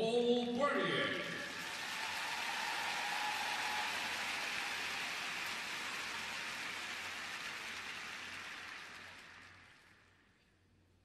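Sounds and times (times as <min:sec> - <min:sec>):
crowd applauding: 0:01.3 - 0:10.4.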